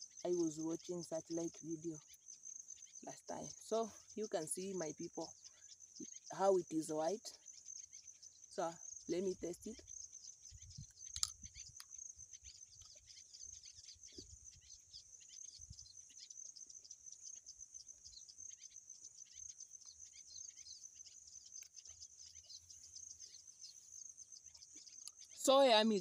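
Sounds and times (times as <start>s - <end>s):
high-pitched insect chorus: 0.0s - 26.0s
insect chirps: 0.0s - 26.0s.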